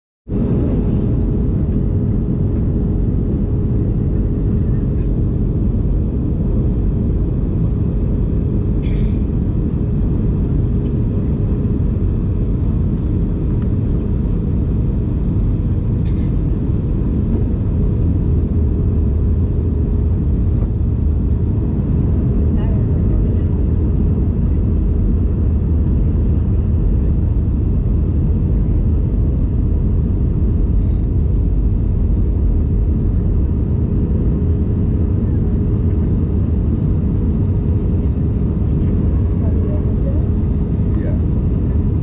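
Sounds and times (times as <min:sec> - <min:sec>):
airliner cabin roar: 0:00.3 - 0:42.0.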